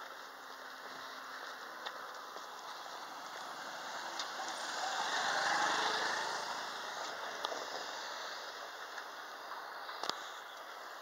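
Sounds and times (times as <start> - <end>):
car passing: 0.6 - 11.0.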